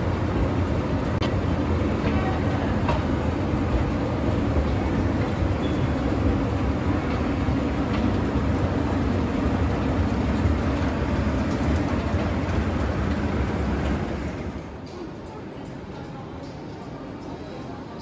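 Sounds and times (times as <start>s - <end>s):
escalator running: 0.0s - 14.8s.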